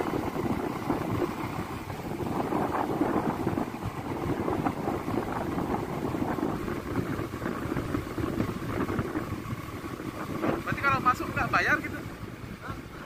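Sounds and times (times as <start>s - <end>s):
motorcycle engine: 0.0s - 13.0s
wind rushing over microphone: 0.0s - 13.0s.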